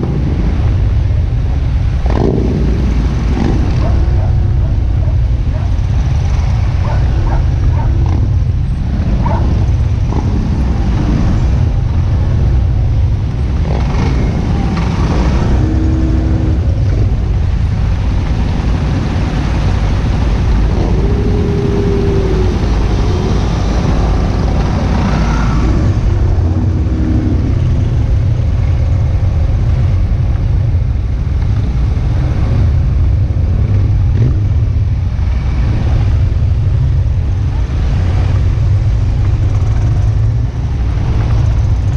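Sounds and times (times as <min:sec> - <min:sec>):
motorcycle engines rumbling: 0:00.0 - 0:41.9.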